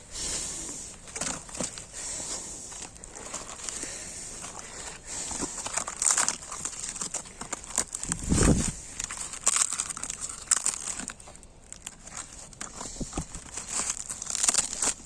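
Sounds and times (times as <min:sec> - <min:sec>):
dry twigs crackling in fire: 0:00.1 - 0:15.0.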